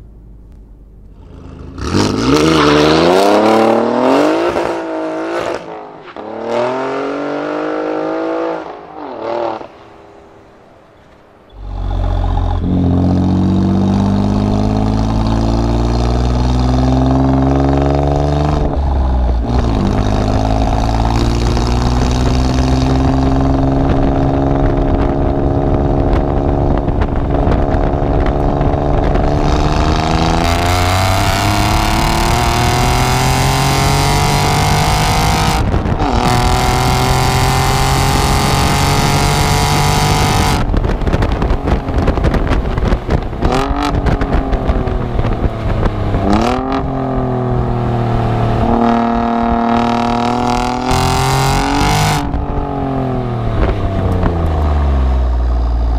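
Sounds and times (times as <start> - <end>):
car exhaust accelerating: 0.0 - 10.2, 11.2 - 55.9
wind and road noise hiss: 0.0 - 55.9.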